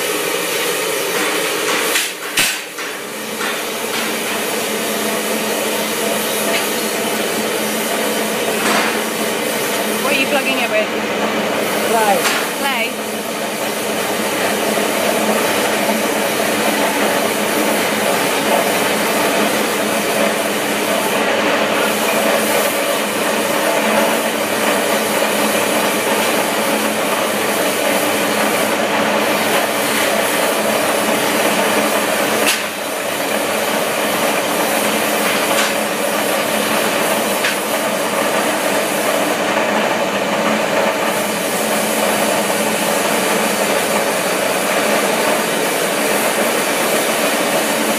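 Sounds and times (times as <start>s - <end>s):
gas burner hissing: 0.0s - 47.9s.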